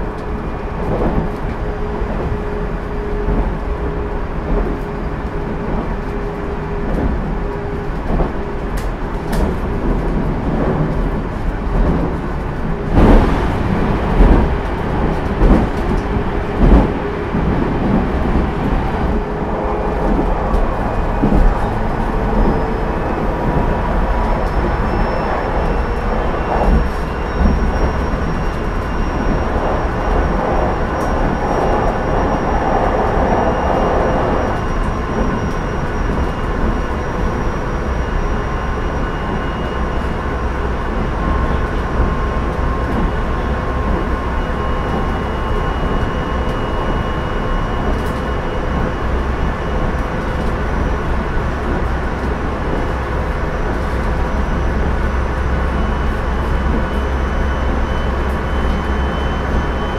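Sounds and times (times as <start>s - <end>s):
train wheels on rail: 0.0s - 59.9s.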